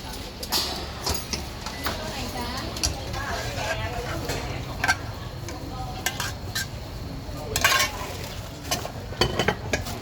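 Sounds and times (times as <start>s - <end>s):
utensils clinking against pots: 0.0s - 10.0s.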